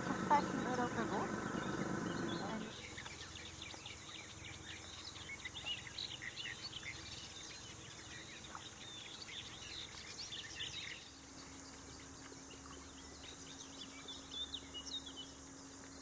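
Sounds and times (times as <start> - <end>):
faint low hum: 0.0 - 16.0
small birds chirping: 0.0 - 16.0.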